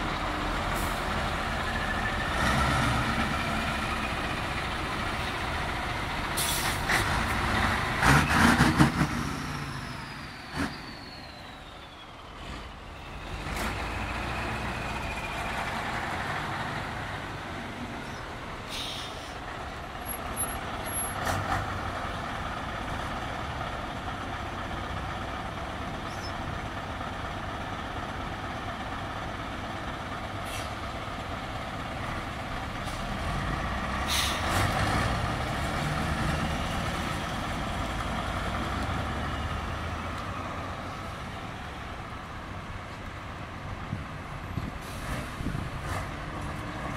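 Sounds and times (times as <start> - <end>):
diesel truck engine pulling away: 0.0 - 46.9.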